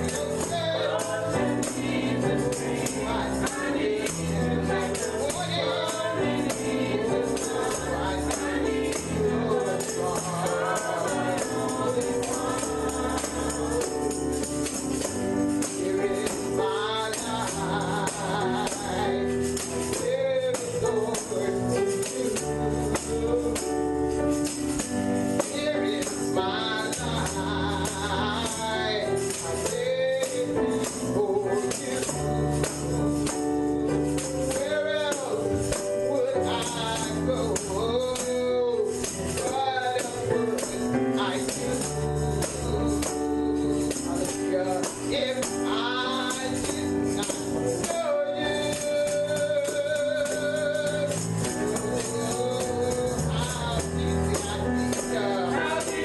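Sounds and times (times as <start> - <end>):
singing voices: 0.0 - 56.0
tambourine shaking: 0.0 - 56.0.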